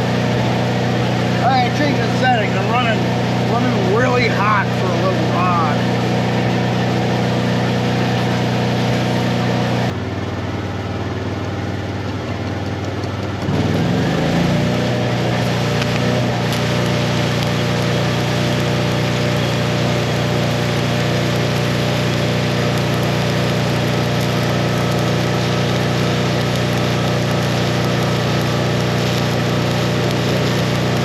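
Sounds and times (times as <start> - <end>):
welding arc hissing and crackling: 0.0 - 10.0, 12.7 - 31.0
welder engine running: 0.0 - 31.0.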